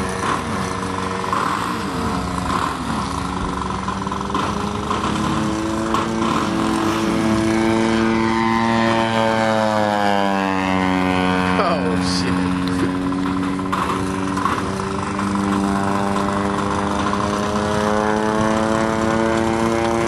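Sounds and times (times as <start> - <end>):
model plane engine and propeller: 0.0 - 20.0.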